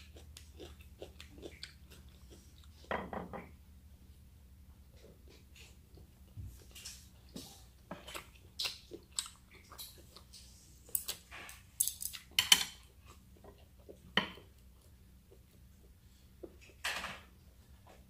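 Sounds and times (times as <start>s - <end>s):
wet chewing and crunching: 0.0s - 2.9s, 5.0s - 16.8s.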